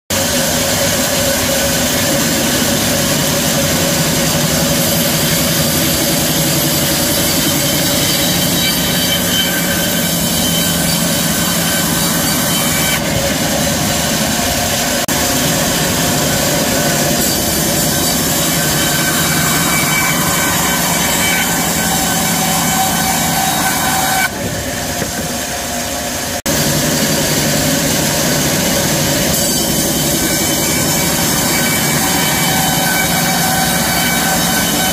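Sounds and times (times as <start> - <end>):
band sawmill cutting log: 0.1 - 34.9
whining saw tones: 0.2 - 34.9.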